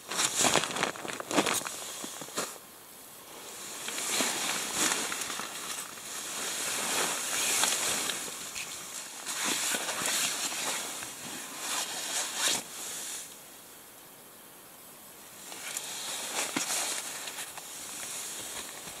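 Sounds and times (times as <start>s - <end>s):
tent fabric rustling: 0.0s - 2.6s, 3.2s - 13.3s, 15.4s - 19.0s.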